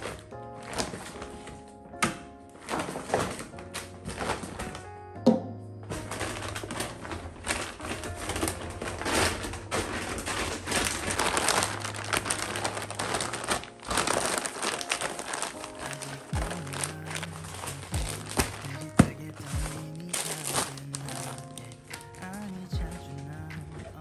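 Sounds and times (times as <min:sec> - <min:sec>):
shopping bag rustling and crinkling: 0:00.0 - 0:05.0, 0:05.9 - 0:24.0.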